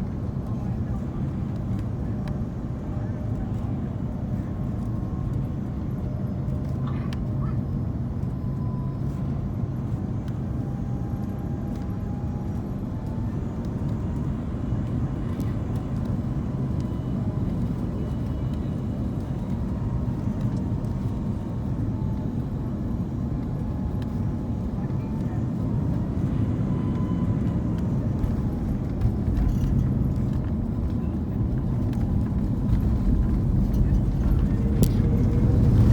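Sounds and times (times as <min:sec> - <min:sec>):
airplane cabin engine rumble: 0:00.0 - 0:35.9
faint whine: 0:00.0 - 0:35.9.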